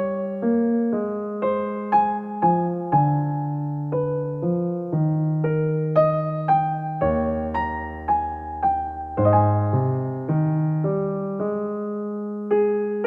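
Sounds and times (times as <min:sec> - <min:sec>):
gentle electric piano melody: 0:00.0 - 0:13.0.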